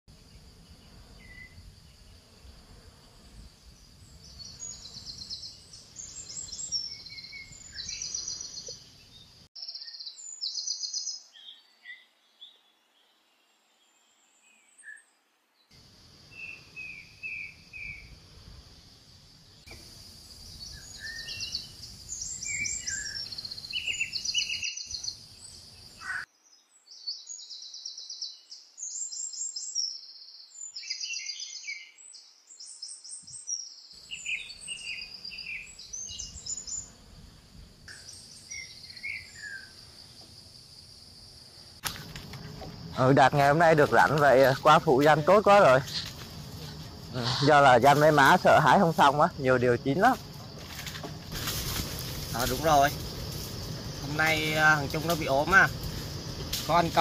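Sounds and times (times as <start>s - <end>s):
birds singing trills and chirps: 0.1s - 18.2s, 19.5s - 40.3s, 42.0s - 57.0s.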